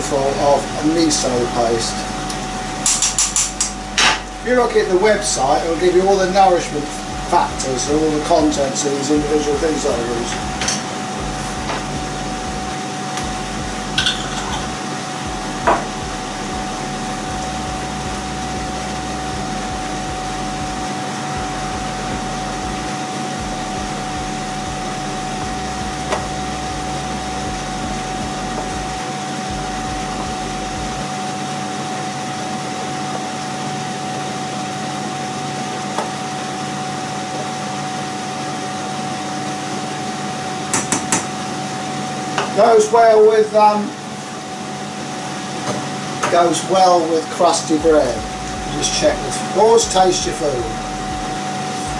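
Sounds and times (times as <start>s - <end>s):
whirring hum with hiss: 0.0s - 51.9s.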